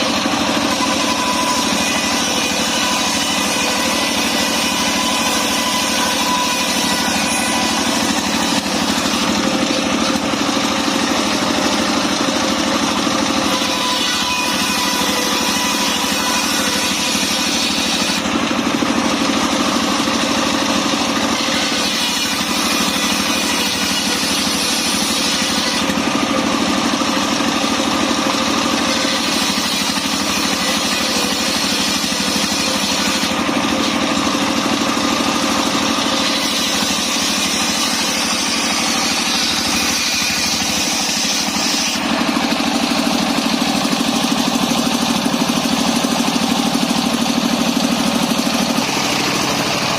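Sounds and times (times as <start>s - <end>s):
circular sawmill running: 0.0s - 49.9s.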